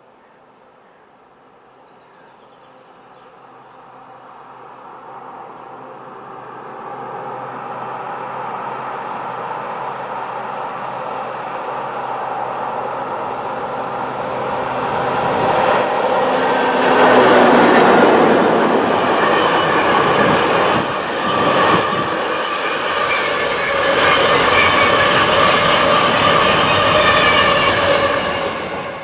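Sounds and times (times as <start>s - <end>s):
electric locomotive passing: 2.7s - 29.0s.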